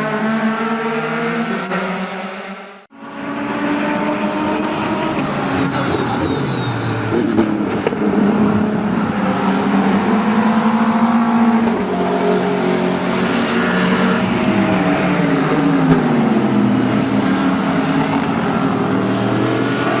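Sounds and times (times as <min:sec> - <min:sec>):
race car engines passing by: 0:00.0 - 0:20.0.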